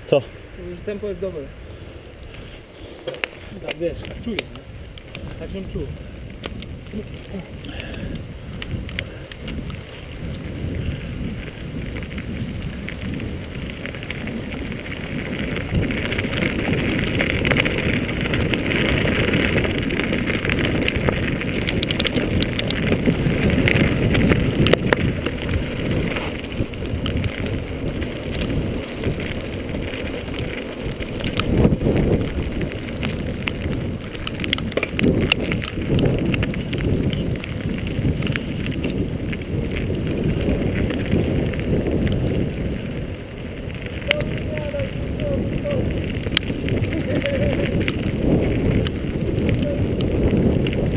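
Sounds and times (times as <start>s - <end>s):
wind rushing over microphone: 0.0s - 50.9s
tyres rolling on grit: 0.1s - 50.9s
bike rattling and knocking: 2.9s - 50.9s.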